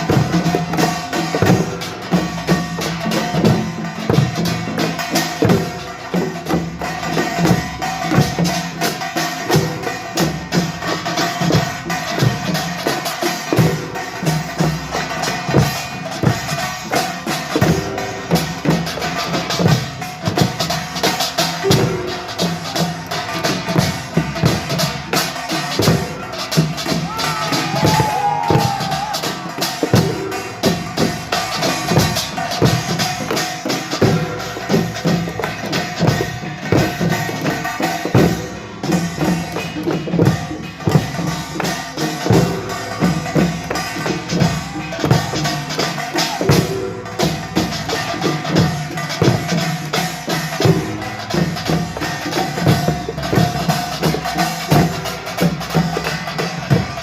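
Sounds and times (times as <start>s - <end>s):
percussion band playing: 0.0s - 57.0s.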